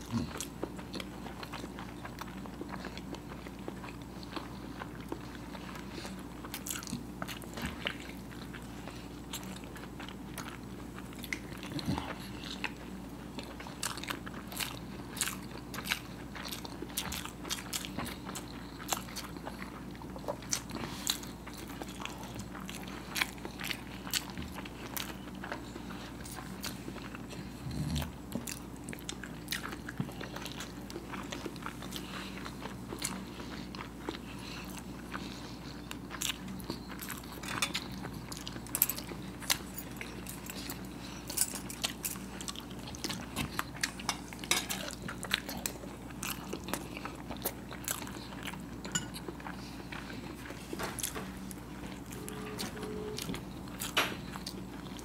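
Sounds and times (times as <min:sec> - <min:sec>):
people chewing eggs: 0:00.0 - 0:55.0.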